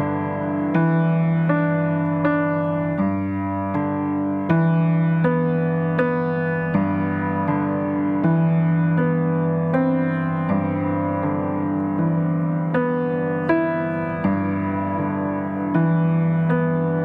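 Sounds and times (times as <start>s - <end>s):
slow piano notes: 0.0s - 17.0s.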